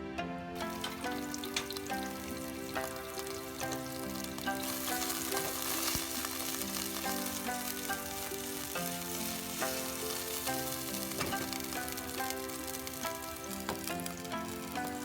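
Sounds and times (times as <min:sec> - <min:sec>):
background music: 0:00.0 - 0:15.0
food sizzling in hot oil: 0:00.6 - 0:15.0.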